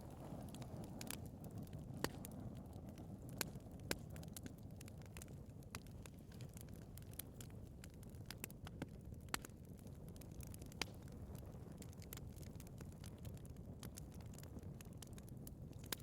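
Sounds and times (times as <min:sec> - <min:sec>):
fire crackling and popping: 0:00.0 - 0:16.0
wood fire rumbling: 0:00.0 - 0:16.0.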